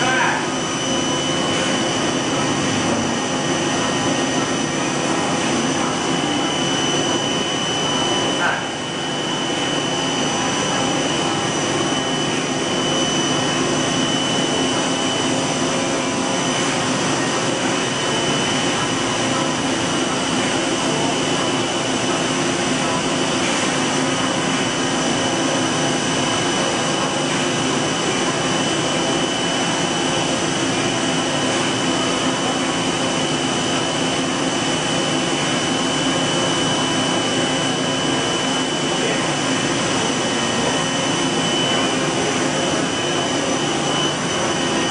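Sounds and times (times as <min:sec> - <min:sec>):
machine hum with high whine: 0:00.0 - 0:44.9.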